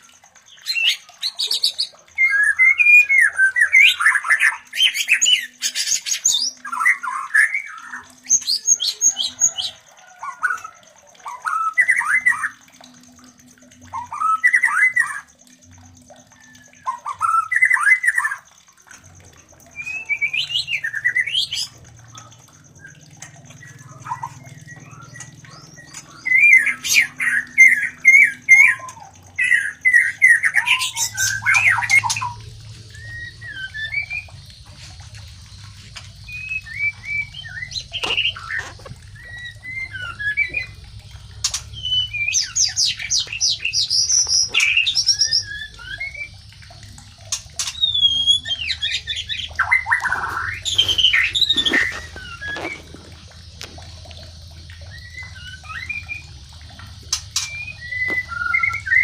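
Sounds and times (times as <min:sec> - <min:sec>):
birds calling and chattering: 0:00.0 - 0:59.0.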